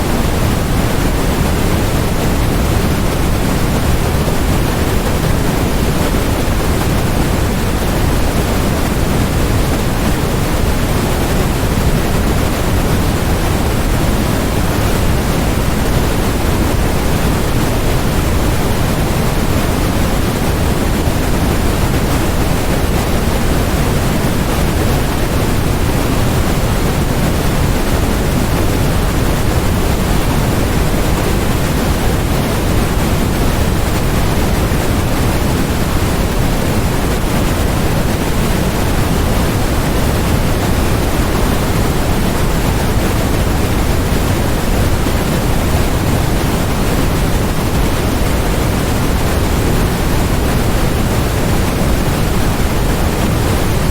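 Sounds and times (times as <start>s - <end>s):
white noise hiss: 0.0s - 53.9s.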